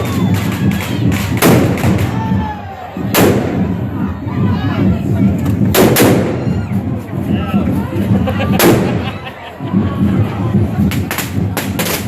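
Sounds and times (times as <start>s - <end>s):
firework bangs: 0.0s - 3.9s, 4.8s - 6.8s, 8.1s - 12.0s
street crowd noise: 0.0s - 12.0s.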